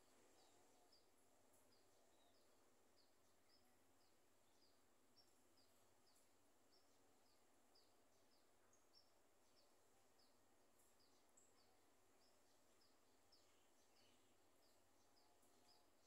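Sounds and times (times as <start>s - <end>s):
faint high chirps: 0.0s - 16.0s.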